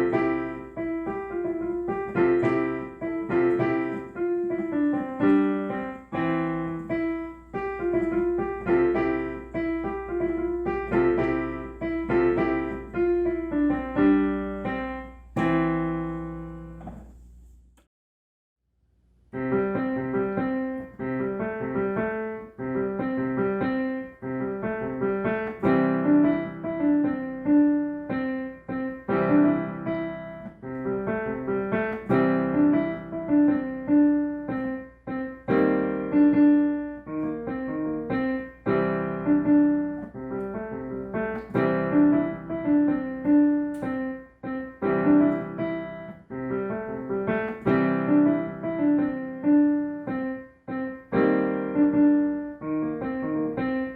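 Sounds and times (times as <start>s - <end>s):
solo piano: 0.0s - 17.9s, 19.3s - 53.9s.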